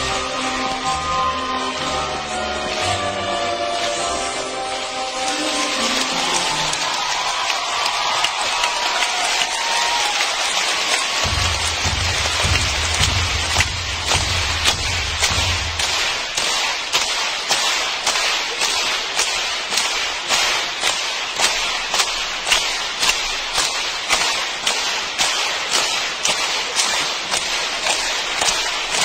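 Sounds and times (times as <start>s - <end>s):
audience clapping in unison: 0.0s - 29.0s
general applause: 2.6s - 29.0s.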